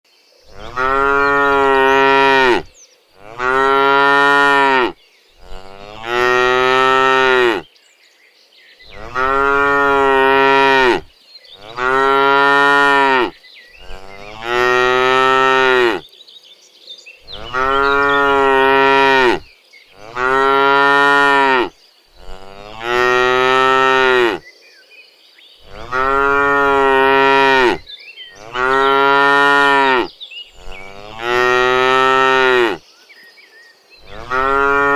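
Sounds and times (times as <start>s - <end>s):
cattle mooing: 0.5s - 7.6s, 8.9s - 16.0s, 17.3s - 19.4s, 20.0s - 24.4s, 25.6s - 27.8s, 28.4s - 32.8s, 34.0s - 34.9s.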